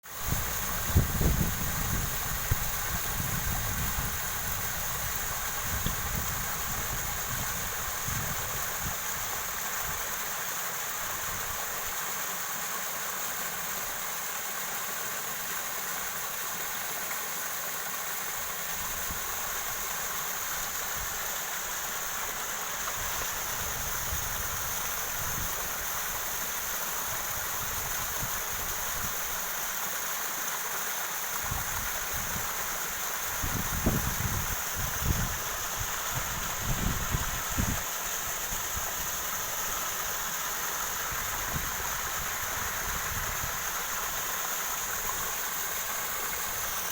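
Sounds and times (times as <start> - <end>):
water rushing: 0.0 - 46.9.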